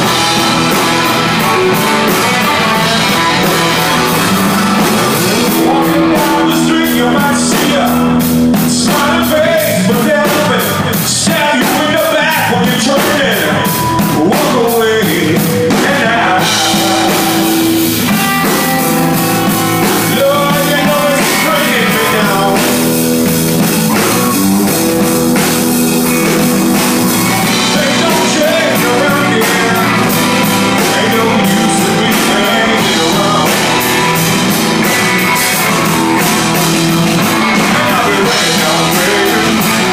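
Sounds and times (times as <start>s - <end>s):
drum kit beat: 0.0s - 39.9s
electric guitar: 0.0s - 39.9s
organ chords: 0.0s - 39.9s.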